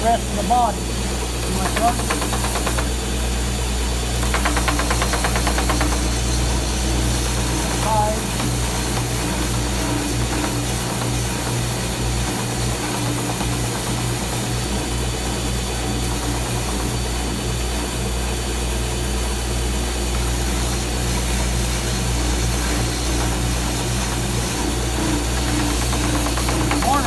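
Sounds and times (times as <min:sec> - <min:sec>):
wood being sanded: 0:00.0 - 0:02.9, 0:04.2 - 0:16.8, 0:20.3 - 0:27.0
sander running: 0:00.0 - 0:27.0
shop vacuum running: 0:00.0 - 0:27.0.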